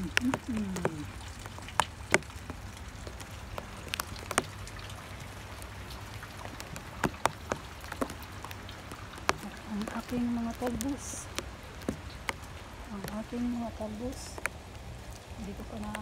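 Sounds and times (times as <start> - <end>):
rain hissing: 0.0 - 16.0
water dripping on hard surfaces: 0.0 - 16.0.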